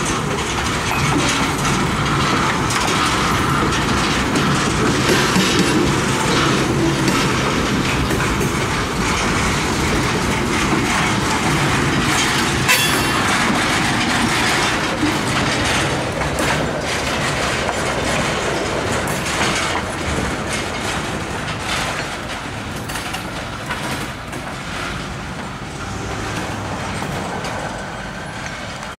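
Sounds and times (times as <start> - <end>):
train wheels clacking over rail joints: 0.0 - 29.0.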